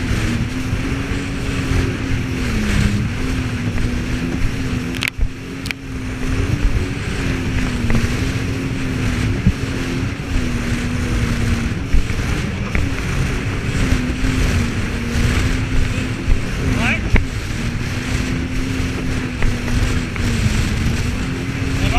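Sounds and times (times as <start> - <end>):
jet ski engine running: 0.0 - 21.9
water noise: 0.0 - 21.9
wind rushing over microphone: 0.0 - 21.9.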